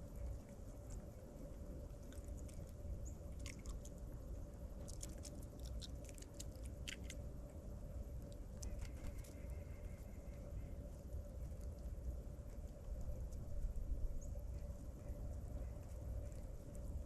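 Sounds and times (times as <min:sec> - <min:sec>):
low steady hum: 0:00.0 - 0:17.0
small birds clicking and chipping: 0:00.0 - 0:17.0.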